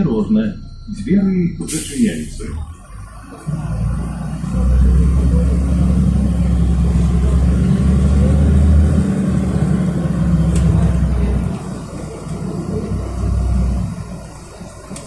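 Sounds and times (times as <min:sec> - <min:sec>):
bus engine accelerating: 0:00.0 - 0:15.0.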